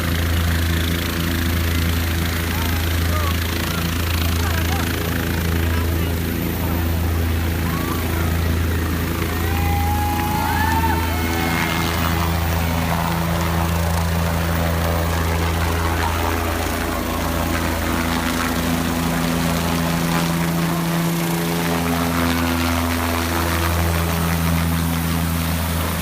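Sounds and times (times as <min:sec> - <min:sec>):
helicopter rotor and engine hum: 0:00.0 - 0:26.0.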